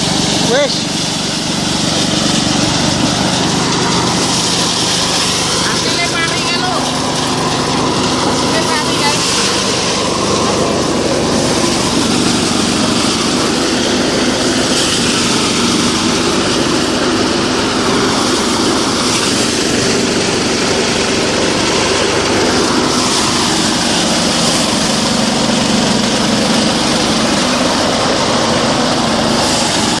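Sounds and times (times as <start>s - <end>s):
engine hum: 0.0s - 30.0s
threshing machine rushing noise: 0.0s - 30.0s.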